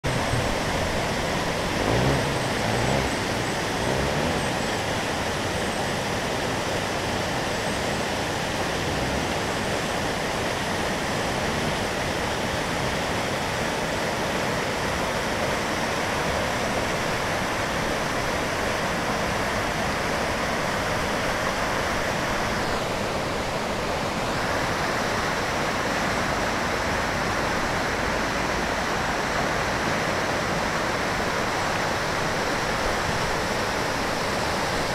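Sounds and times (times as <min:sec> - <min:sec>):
fast-flowing stream water: 0:00.0 - 0:34.9.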